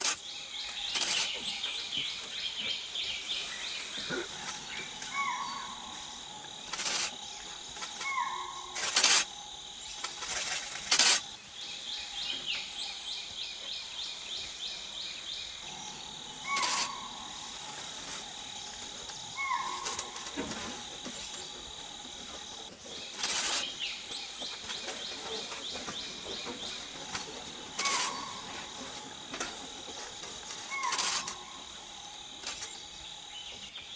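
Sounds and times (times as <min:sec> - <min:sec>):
crickets or cicadas chorus: 0:00.0 - 0:33.9.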